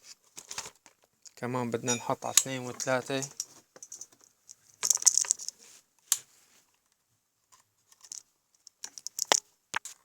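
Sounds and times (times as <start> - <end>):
plastic clicks and scraping: 0.1 - 1.4, 2.3 - 10.0.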